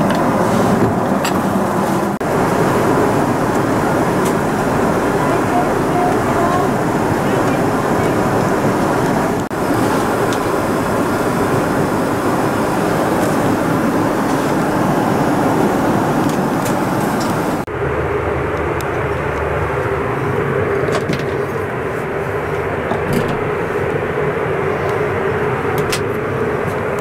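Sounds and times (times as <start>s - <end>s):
airplane cabin engine drone: 0.0s - 27.0s.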